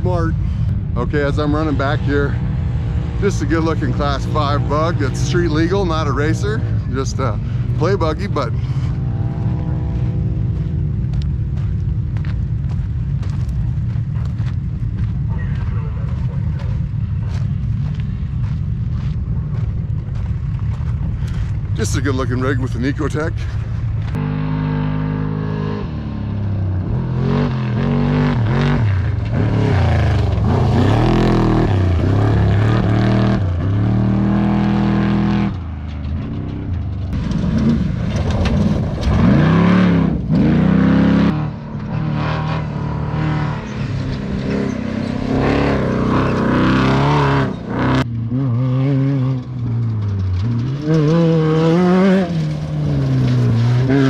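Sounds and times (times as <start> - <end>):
race vehicle engines revving: 0.0 - 54.0.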